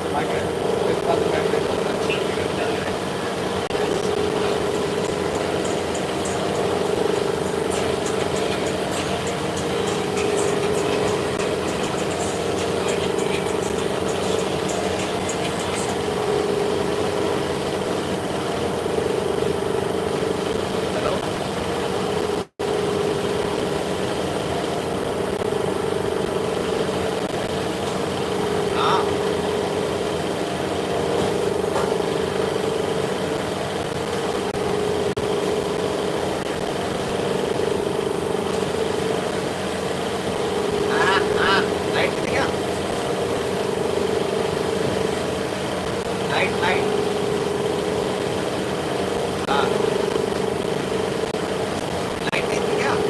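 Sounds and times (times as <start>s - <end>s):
machinery humming: 0.0s - 53.0s.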